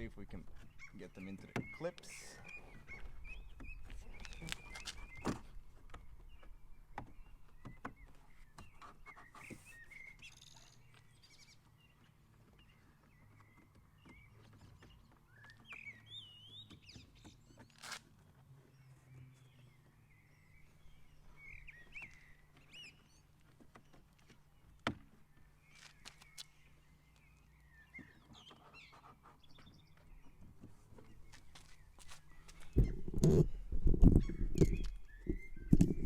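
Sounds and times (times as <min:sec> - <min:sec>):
faint birds chirping: 0:00.0 - 0:36.0.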